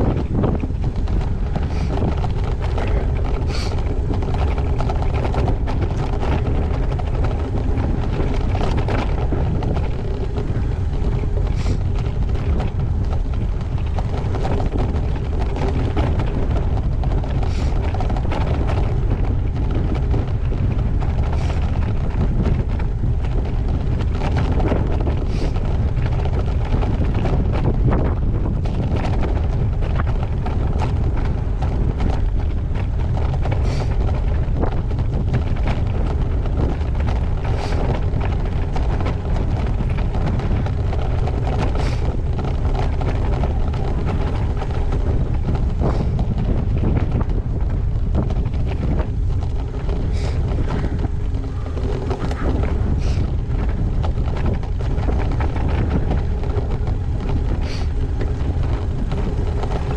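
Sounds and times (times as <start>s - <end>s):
bike tyre noise: 0.0s - 59.9s
wind rumbling over microphone: 0.0s - 59.9s.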